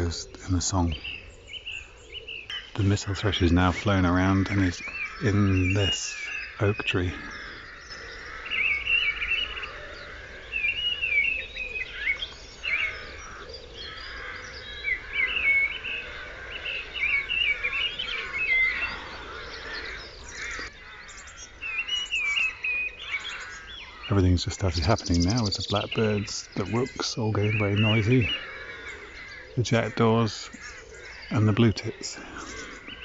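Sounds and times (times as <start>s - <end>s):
birds calling in background: 0.0s - 33.0s.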